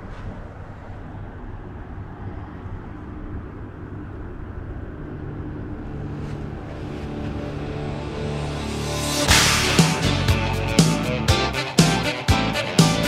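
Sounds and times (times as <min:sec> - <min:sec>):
highway traffic rumble: 0:00.0 - 0:12.8
faint music: 0:00.0 - 0:13.0.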